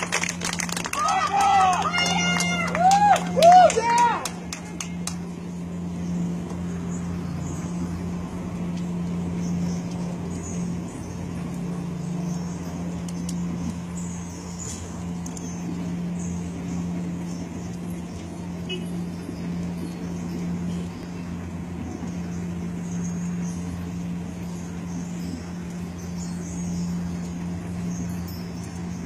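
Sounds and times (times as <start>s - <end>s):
outdoor background noise: 0.0s - 29.0s
steady low hum: 0.0s - 29.0s.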